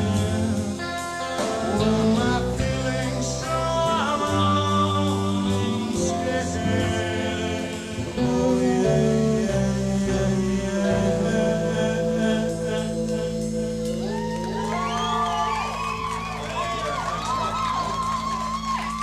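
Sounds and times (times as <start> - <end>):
person singing long held notes: 0.0 - 15.7
rock band playing live: 0.0 - 19.0.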